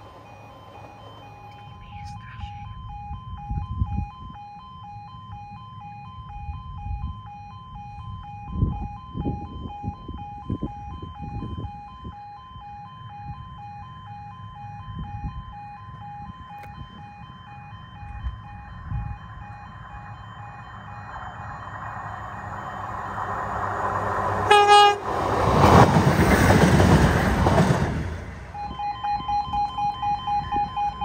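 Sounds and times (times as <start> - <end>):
pulsing two-tone crossing alarm: 0.0 - 31.0.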